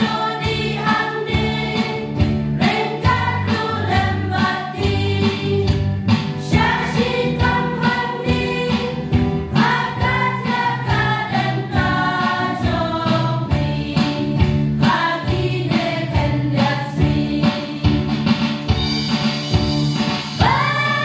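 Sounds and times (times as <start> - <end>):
women's choir singing in harmony: 0.0 - 18.0, 20.4 - 21.0.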